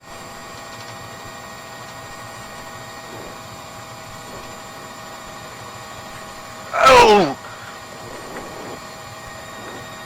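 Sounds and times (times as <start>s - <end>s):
mechanical hum with high whine: 0.0s - 10.0s.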